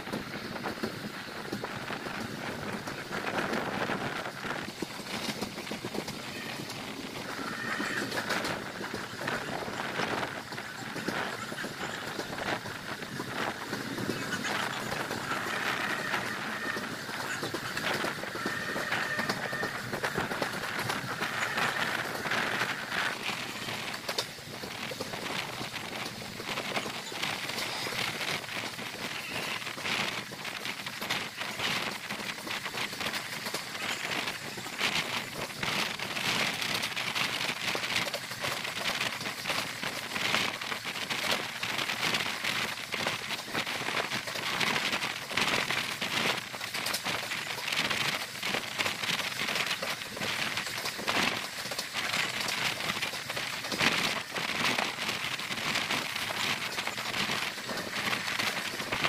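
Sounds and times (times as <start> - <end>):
wheels clattering on track: 0.0 - 59.0.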